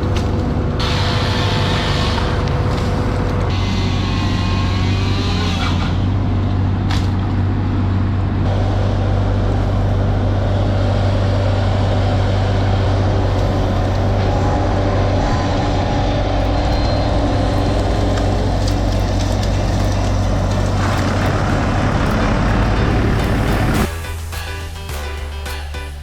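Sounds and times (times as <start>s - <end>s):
heavy engine droning: 0.0s - 26.0s.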